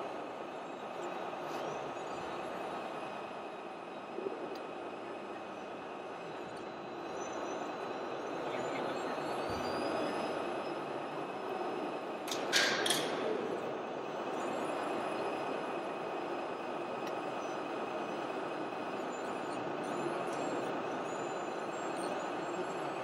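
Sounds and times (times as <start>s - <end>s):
model truck engine hum: 0.0s - 23.0s.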